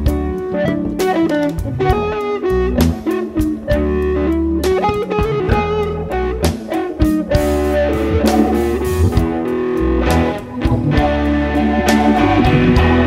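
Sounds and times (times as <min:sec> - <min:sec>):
electric guitar blues music: 0:00.0 - 0:13.0.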